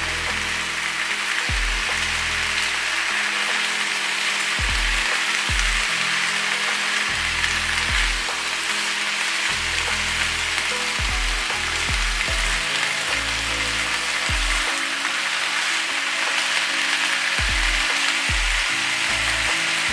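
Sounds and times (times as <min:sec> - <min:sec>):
food sizzling in frying pan: 0:00.0 - 0:19.9.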